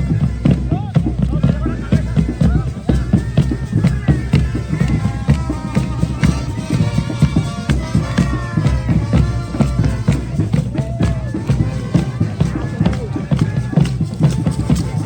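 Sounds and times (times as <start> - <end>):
brass band playing: 0.0 - 15.0
steady drum beat: 0.0 - 15.0.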